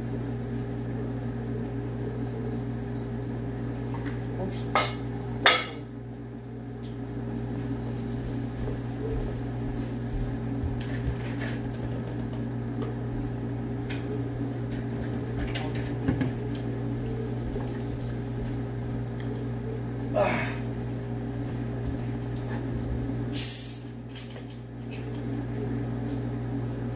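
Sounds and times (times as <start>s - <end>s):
kitchen appliance humming: 0.0s - 26.9s.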